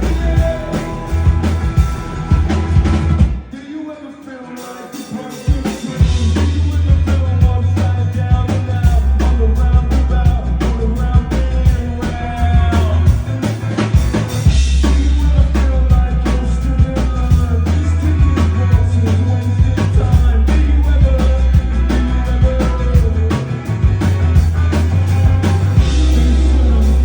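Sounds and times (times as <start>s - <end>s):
bass notes: 0.0s - 3.5s, 6.0s - 27.0s
drum kit beat: 0.0s - 3.6s, 4.6s - 27.0s
live rock band: 0.0s - 27.0s.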